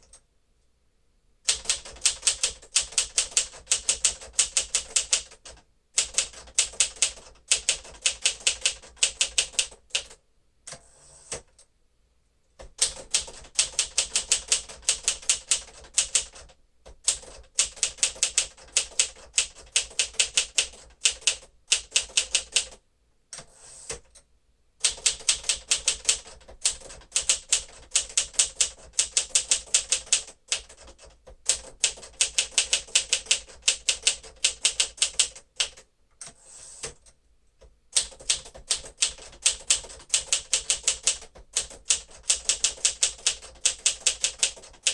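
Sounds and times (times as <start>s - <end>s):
manual typewriter typing: 1.5s - 11.6s, 12.6s - 22.8s, 24.8s - 37.1s, 37.9s - 44.9s.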